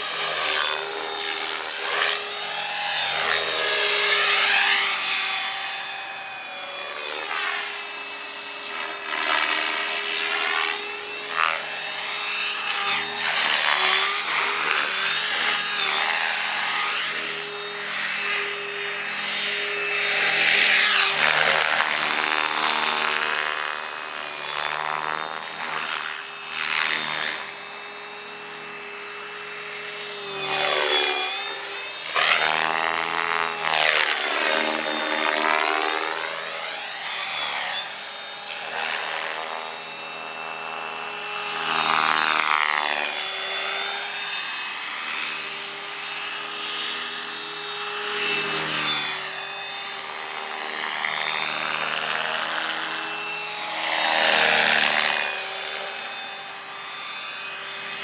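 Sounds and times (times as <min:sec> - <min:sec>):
rc helicopter motor whine: 0:00.0 - 0:58.0
rotor blade noise: 0:00.0 - 0:58.0.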